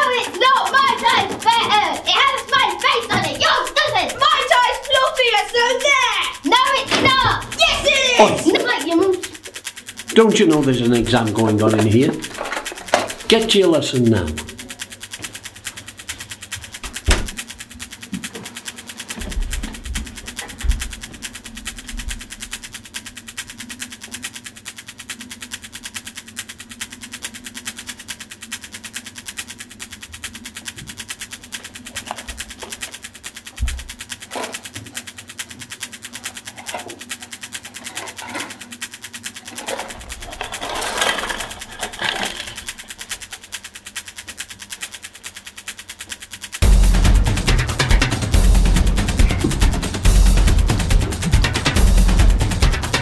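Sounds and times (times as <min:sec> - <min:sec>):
rapid even ticking: 0:00.0 - 0:53.0.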